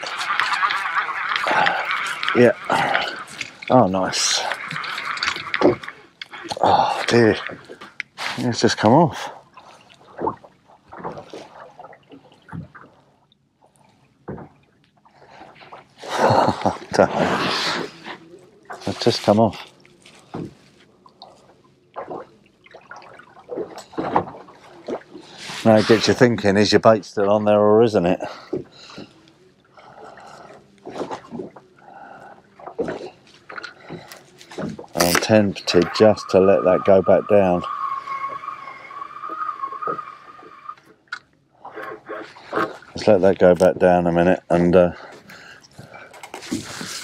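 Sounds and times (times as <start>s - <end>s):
water lapping against boat hull: 0.0s - 47.0s.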